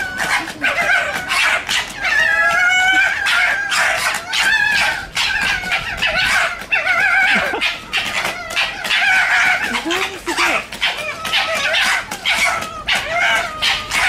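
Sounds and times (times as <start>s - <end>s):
foxes screaming and gekkering: 0.0s - 14.0s.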